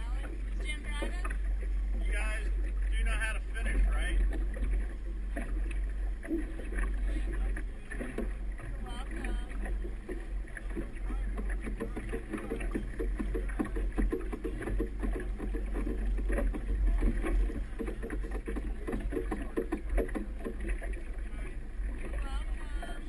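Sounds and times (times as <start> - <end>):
motorboat engine rumble: 0.0 - 23.0
water around boat hull: 0.0 - 23.0.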